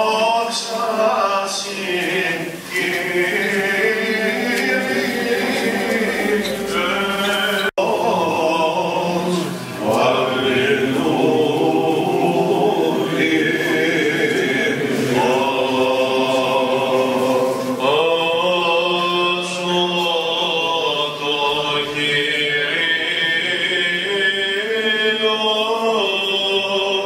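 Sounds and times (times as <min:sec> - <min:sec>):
low vocal drone: 0:00.0 - 0:27.0
voices chanting long notes: 0:00.0 - 0:27.0.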